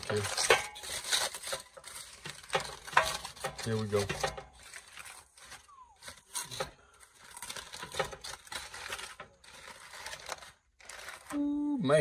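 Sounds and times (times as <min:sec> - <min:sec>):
aluminum foil crinkling: 0:00.0 - 0:11.6.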